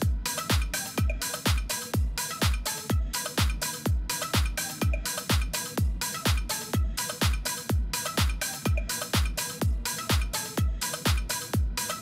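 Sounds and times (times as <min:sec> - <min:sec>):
electronic dance music: 0:00.0 - 0:12.0
hi-hat hits: 0:00.0 - 0:12.0
kick drum: 0:00.0 - 0:12.0.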